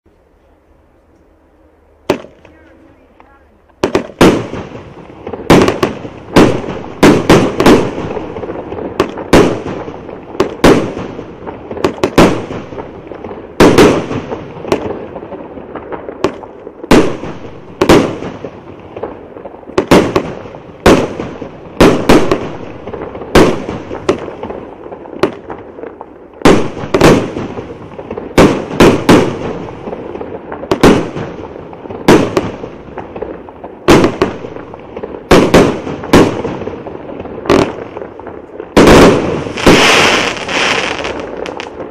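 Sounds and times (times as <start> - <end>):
fireworks bangs: 1.8 - 41.9.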